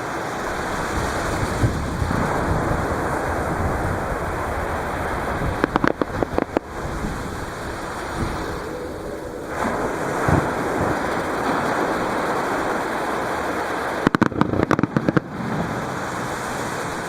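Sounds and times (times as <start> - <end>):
fireworks cracking: 0.0 - 17.0
waves breaking on beach: 0.0 - 17.0.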